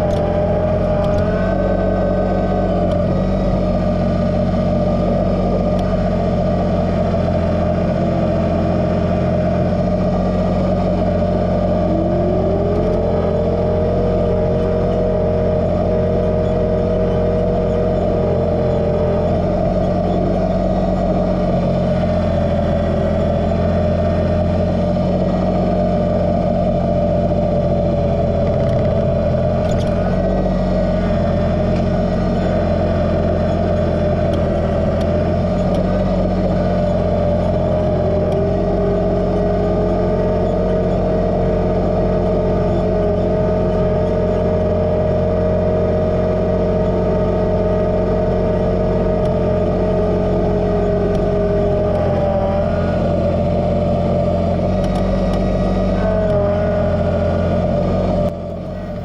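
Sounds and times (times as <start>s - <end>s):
lower whine: 0.0s - 59.0s
steady whine: 0.0s - 59.0s
tractor diesel engine running: 0.0s - 59.0s.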